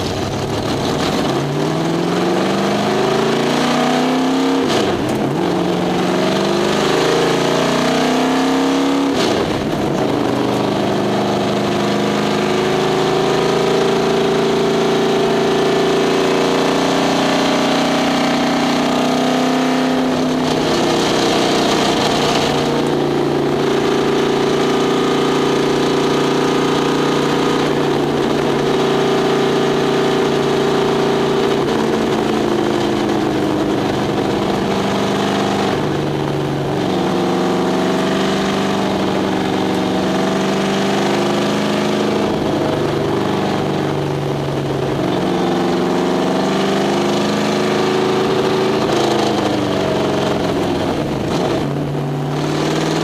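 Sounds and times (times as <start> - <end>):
race car engine under load: 0.0 - 53.0.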